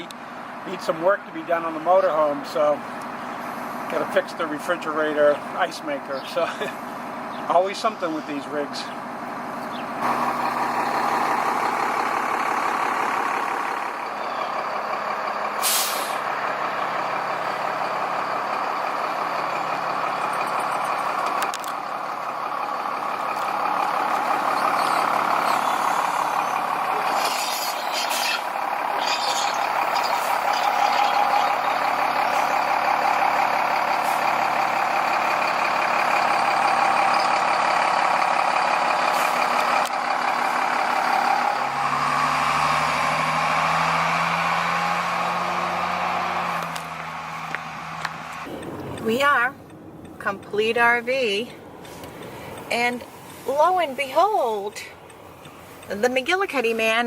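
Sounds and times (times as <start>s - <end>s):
engine and road noise: 0.0s - 57.0s.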